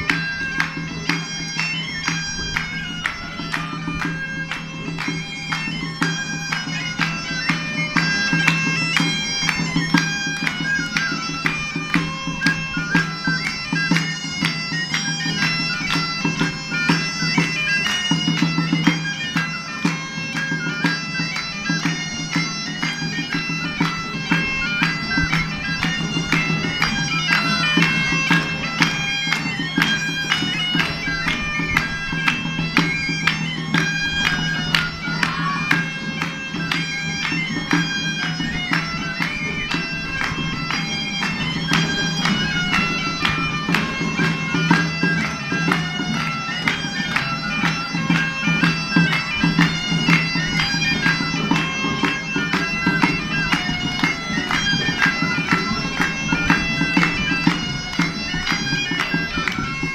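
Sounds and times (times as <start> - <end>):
bagpipe melody with drone: 0.0 - 59.9
small flute: 0.0 - 59.9.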